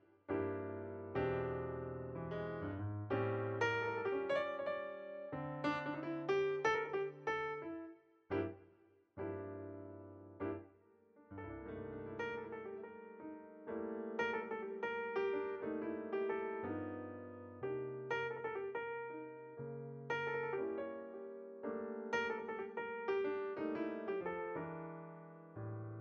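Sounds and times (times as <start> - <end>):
piano music: 0.0 - 8.6, 9.2 - 26.0.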